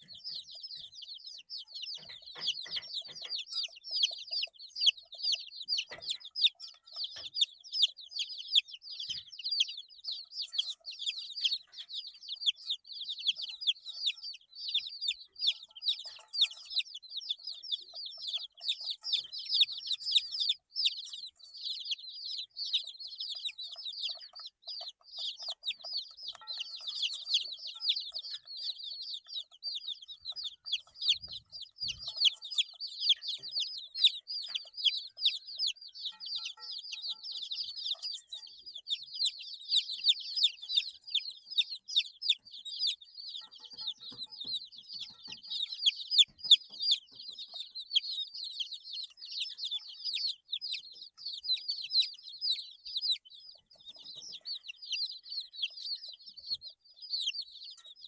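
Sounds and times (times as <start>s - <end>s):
baby chicks peeping: 0.0s - 58.0s.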